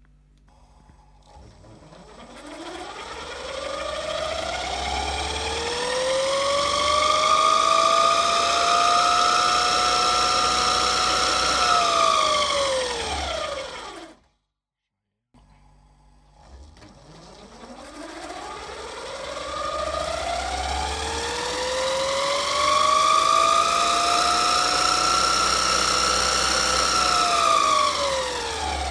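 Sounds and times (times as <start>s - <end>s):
electric boat motor whining: 1.4s - 14.2s, 16.4s - 28.9s.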